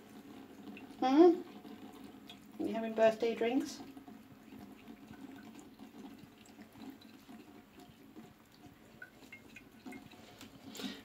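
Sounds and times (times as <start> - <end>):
cat lapping from a bowl: 0.1 - 2.6, 3.7 - 11.0.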